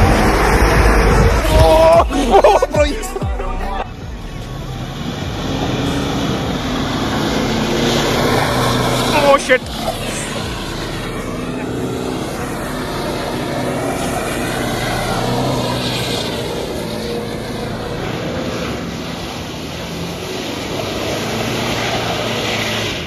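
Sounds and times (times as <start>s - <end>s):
steady rushing noise: 0.0s - 21.1s
car engine revving: 0.0s - 23.0s.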